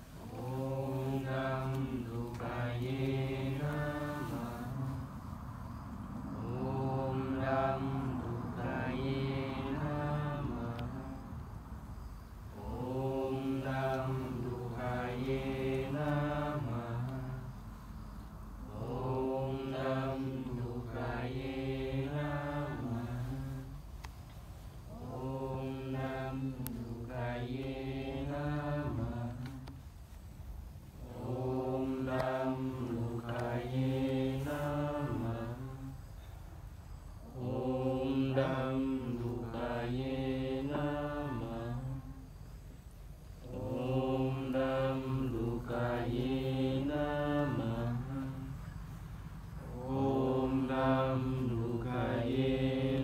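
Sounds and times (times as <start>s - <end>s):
person chanting a mantra: 0.0s - 30.2s, 30.9s - 53.0s.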